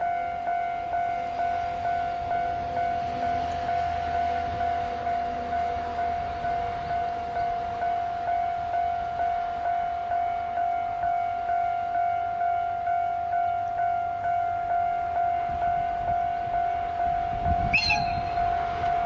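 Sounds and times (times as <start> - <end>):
distant locomotive rumble: 0.0 - 19.0.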